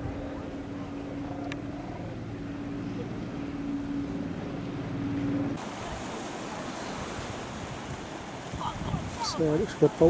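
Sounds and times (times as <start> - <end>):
boat engine droning: 0.0 - 10.0
waves: 0.0 - 10.0
wind: 0.0 - 10.0.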